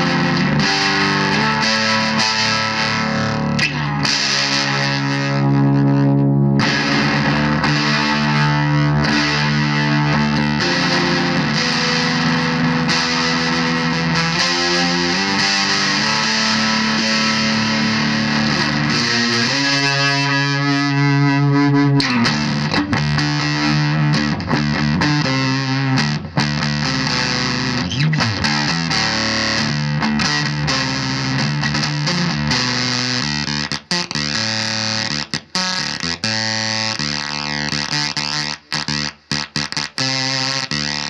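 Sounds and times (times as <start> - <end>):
fuzz-distorted electric guitar: 0.0 - 41.0.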